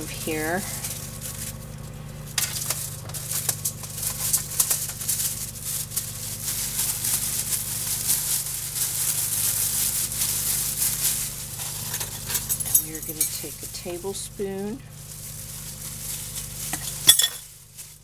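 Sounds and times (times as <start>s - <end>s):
plastic glove crinkling: 0.0s - 18.0s.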